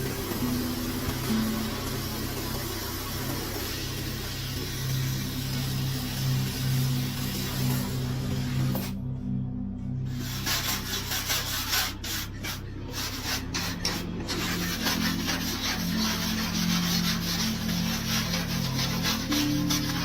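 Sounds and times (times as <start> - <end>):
abrasive rubbing on sheet metal: 0.0 - 9.0, 10.1 - 20.0.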